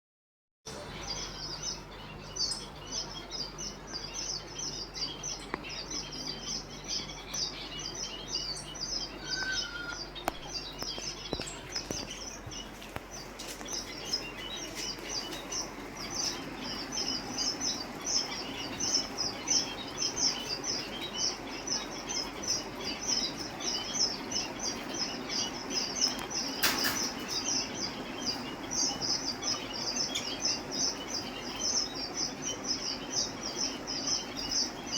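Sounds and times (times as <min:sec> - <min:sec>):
caged birds chirping: 0:00.7 - 0:34.9.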